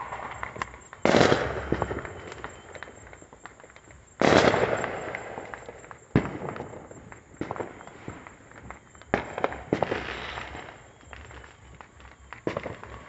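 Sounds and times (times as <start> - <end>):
distant crackling: 0.0 - 13.0
fireworks bangs: 0.0 - 13.0
small firework pops: 0.0 - 13.0.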